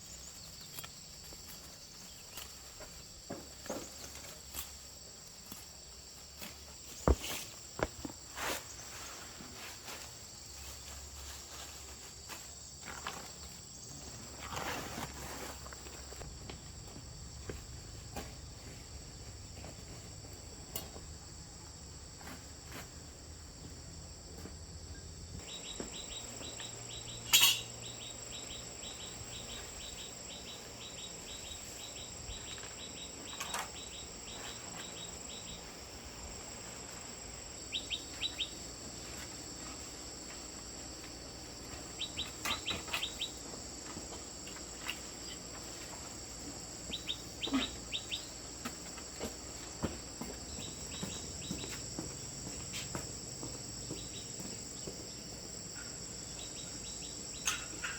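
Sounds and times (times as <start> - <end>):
insects chirring: 0.0 - 57.9
rapid pulsing insect chirp: 0.0 - 57.9.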